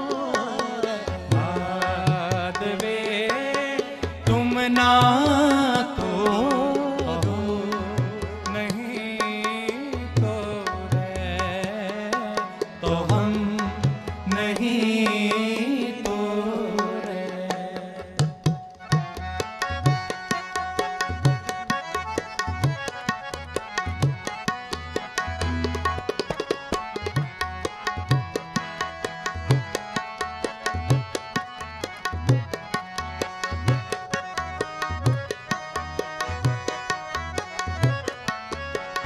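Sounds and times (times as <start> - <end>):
harmonium notes: 0.0 - 39.0
tabla rhythm: 0.0 - 39.0.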